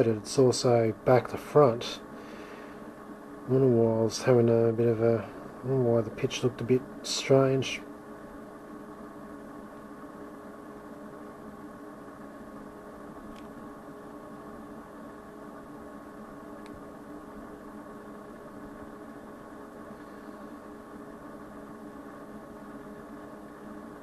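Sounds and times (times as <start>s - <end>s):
electrical hum with steady tones: 0.0s - 24.0s.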